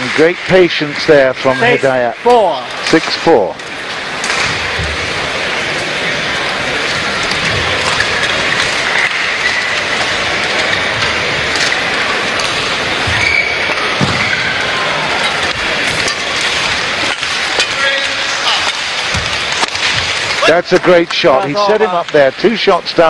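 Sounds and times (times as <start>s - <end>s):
crowd cheering and chatter: 0.0s - 23.0s.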